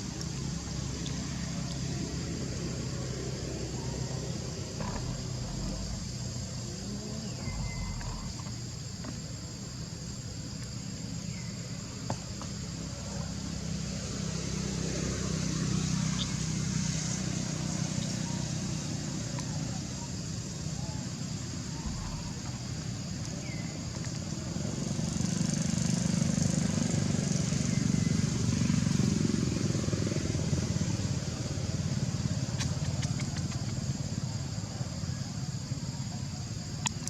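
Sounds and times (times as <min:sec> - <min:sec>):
insect drone: 0:00.0 - 0:37.0
low engine-like hum: 0:00.0 - 0:37.0.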